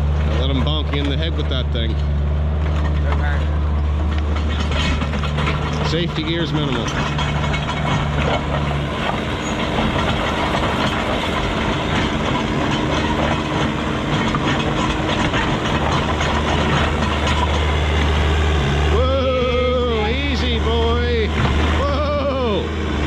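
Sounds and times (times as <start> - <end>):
diesel machinery engine hum: 0.0 - 23.0
metallic rattling and clanking: 0.0 - 23.0.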